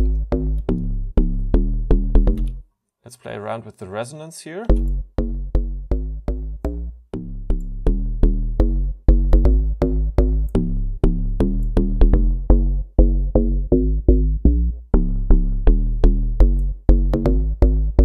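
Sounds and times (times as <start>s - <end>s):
kick and drum loop: 0.0s - 2.5s, 4.7s - 18.0s
deep sub bass: 0.0s - 2.6s, 4.7s - 18.0s
plucky synth bass notes: 0.0s - 2.6s, 4.7s - 18.0s.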